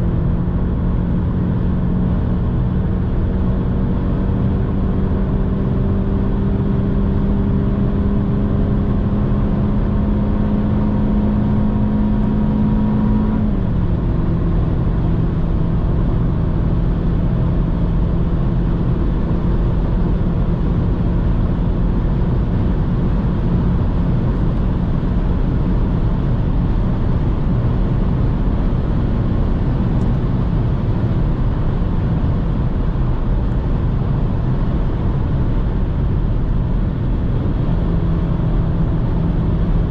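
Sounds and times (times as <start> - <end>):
car engine at full throttle: 0.0 - 39.9
wind and tyre noise: 0.0 - 39.9.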